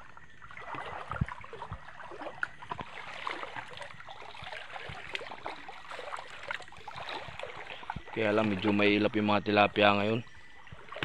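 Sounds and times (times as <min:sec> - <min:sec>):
river water trickling and splashing: 0:00.0 - 0:11.0.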